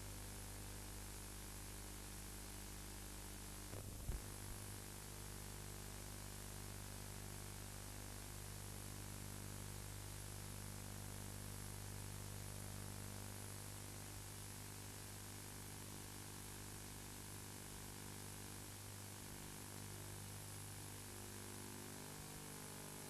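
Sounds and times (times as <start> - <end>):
electrical hum and hiss: 0.0 - 23.0.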